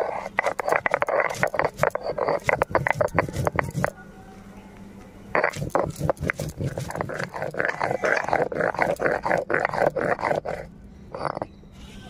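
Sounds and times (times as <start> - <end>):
stone scraping on stone: 0.0 - 3.9, 5.4 - 11.5.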